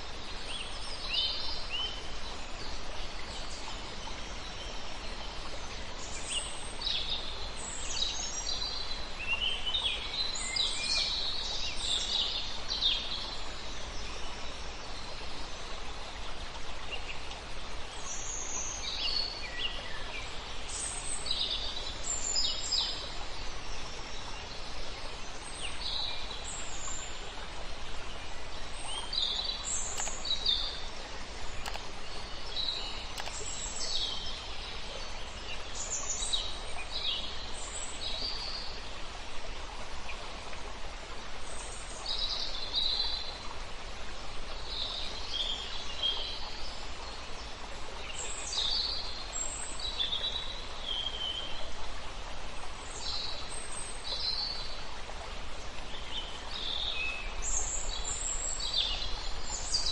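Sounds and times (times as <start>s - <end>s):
songbirds chirping and trilling: 0.0s - 51.7s.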